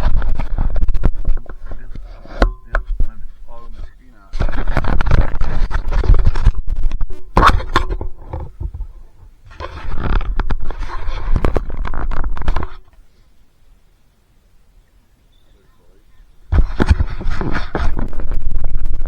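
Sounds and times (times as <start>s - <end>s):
rumbling and scraping on microphone: 0.0s - 13.2s, 16.2s - 19.0s.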